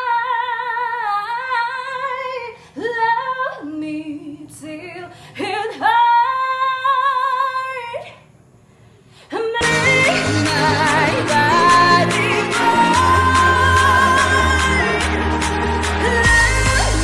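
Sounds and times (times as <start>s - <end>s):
woman singing unaccompanied: 0.0s - 8.0s, 9.3s - 17.0s.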